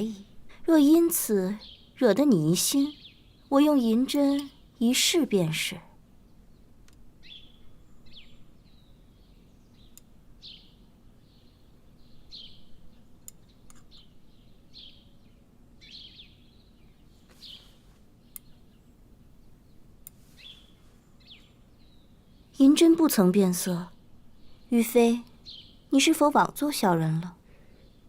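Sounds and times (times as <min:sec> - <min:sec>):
faint bird chirping: 0:00.0 - 0:28.0.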